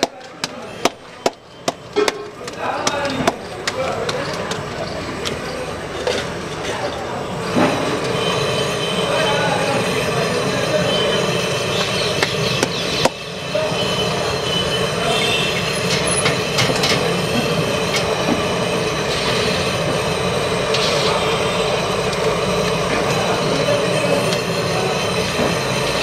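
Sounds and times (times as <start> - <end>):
frying rumble and hiss: 0.0 - 26.0.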